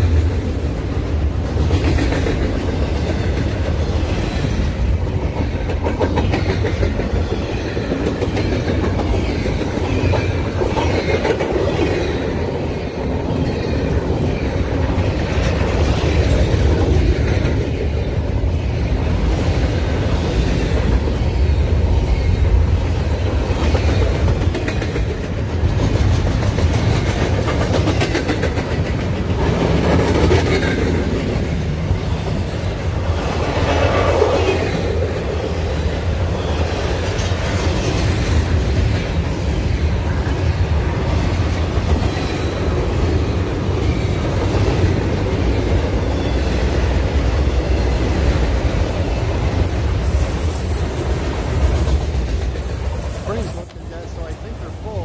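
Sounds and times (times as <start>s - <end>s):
freight train rumbling past: 0.0s - 55.0s
wheels clickety-clack: 0.0s - 55.0s.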